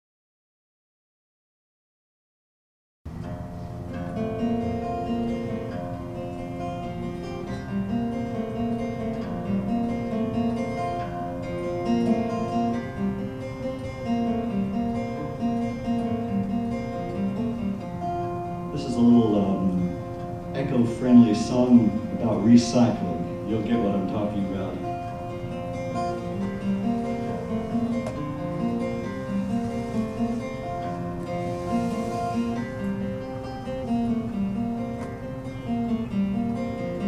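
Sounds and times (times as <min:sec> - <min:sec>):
acoustic guitar: 0:03.1 - 0:37.0.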